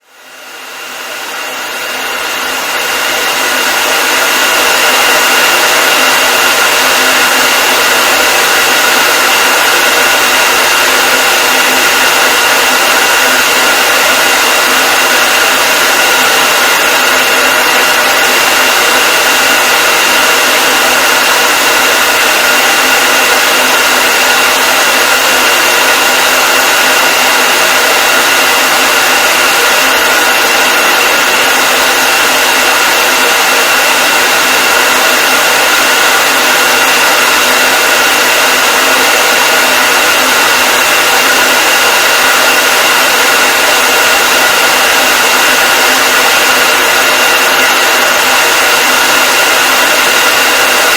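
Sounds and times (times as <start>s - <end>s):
hair dryer blowing: 0.0s - 50.9s.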